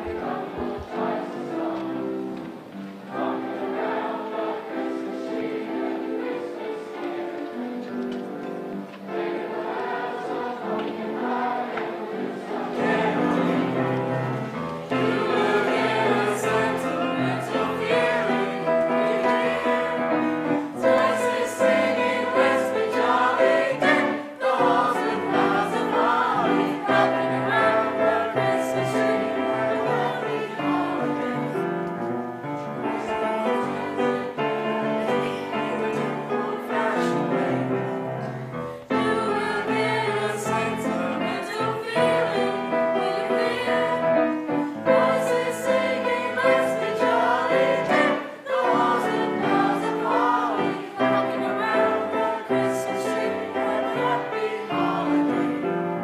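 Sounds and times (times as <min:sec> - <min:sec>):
choir singing: 0:00.0 - 0:56.0
piano accompaniment: 0:00.0 - 0:56.0.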